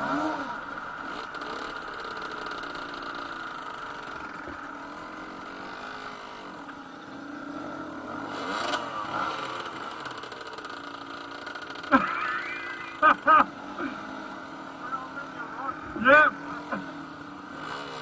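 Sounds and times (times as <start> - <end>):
motorcycle engine revving: 0.0 - 18.0
motorcycle engines running: 0.0 - 18.0.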